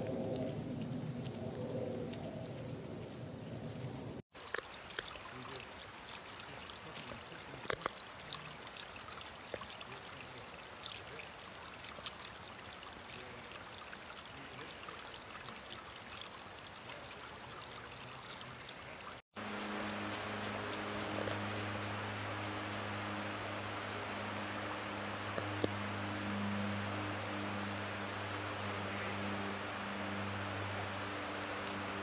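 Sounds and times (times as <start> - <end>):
stream trickling over stones: 4.3 - 32.0.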